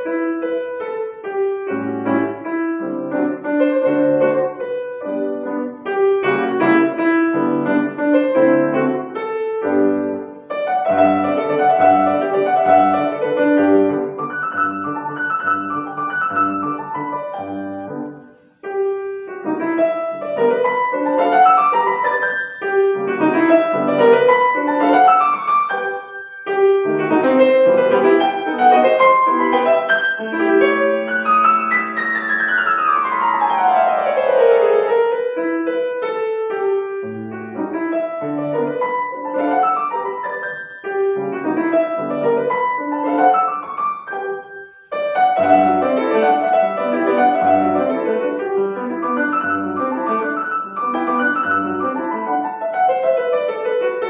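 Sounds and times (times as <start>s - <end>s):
acoustic piano piece: 0.0s - 54.0s.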